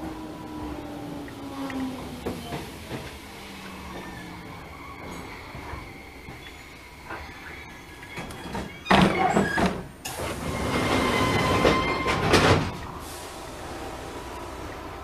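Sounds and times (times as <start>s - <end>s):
electric train rail noise: 0.0s - 15.0s.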